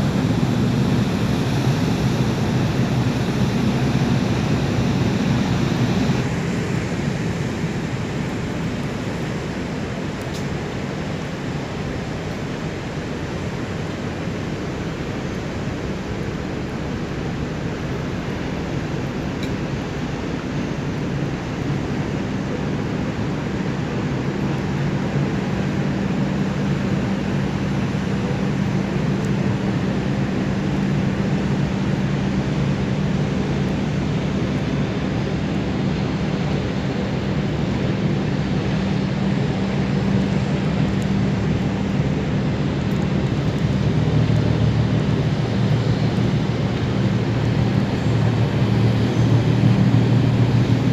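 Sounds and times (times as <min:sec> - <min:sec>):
ship engines droning: 0:00.0 - 0:50.9.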